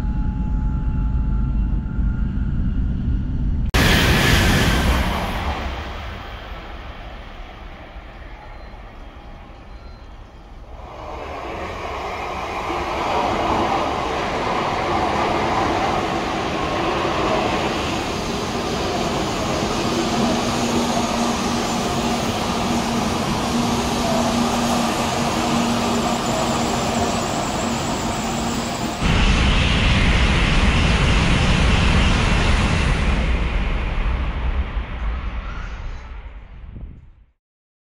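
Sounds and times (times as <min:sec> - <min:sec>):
train rushing rumble: 0:01.7 - 0:36.2.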